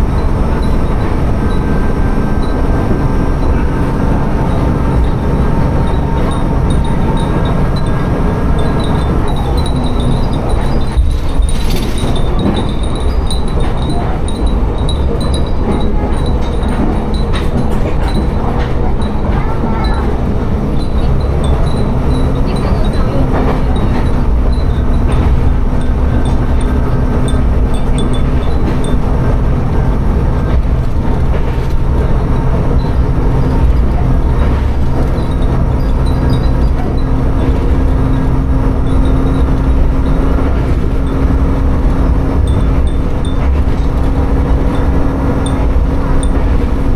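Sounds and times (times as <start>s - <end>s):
diesel railcar engine and wheels: 0.0s - 46.9s.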